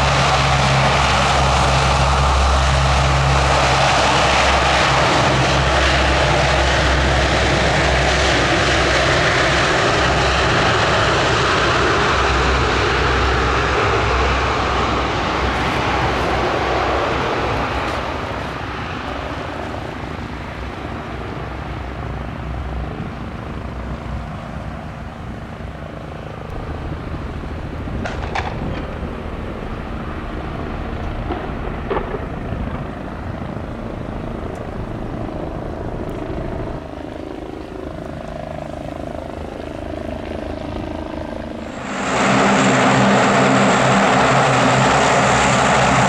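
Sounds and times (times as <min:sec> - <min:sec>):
turboprop aircraft drone: 0:00.0 - 0:46.0.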